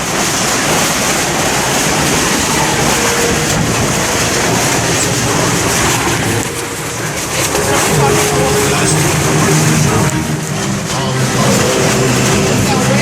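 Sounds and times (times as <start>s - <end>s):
heavy rain pouring: 0.0s - 13.0s
strong wind: 0.0s - 13.0s
wind buffeting microphone: 0.0s - 13.0s.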